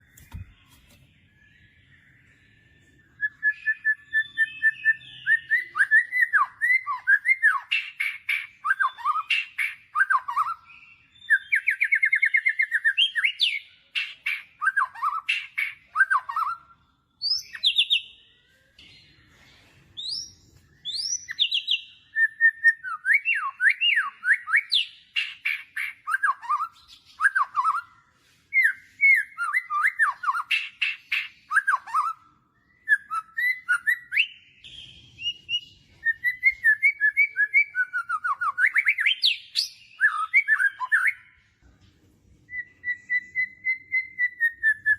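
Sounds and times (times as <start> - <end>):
bird song trills and chirps: 0.0 - 44.9.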